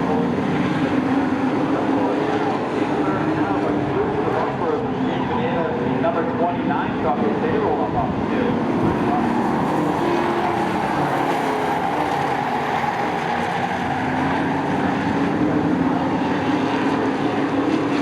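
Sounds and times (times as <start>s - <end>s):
racing truck engines: 0.0s - 18.0s.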